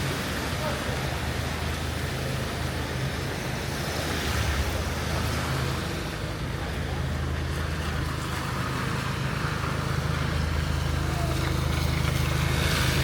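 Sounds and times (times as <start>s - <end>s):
rain hissing: 0.0s - 13.0s
traffic rumble: 0.0s - 13.0s.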